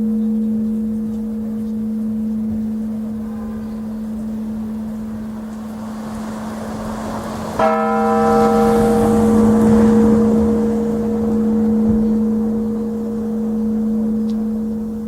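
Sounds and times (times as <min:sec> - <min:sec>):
large church bell ringing: 0:00.0 - 0:15.0.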